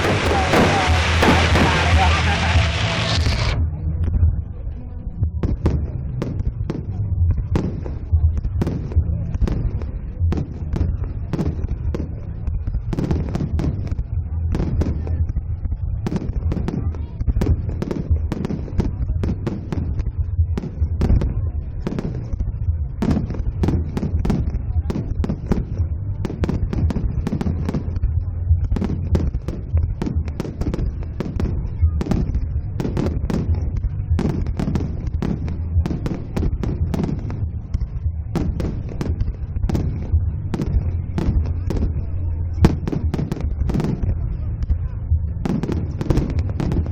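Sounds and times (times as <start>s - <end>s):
fireworks bangs and crackles: 0.0s - 46.9s
steady low rumble: 0.0s - 46.9s.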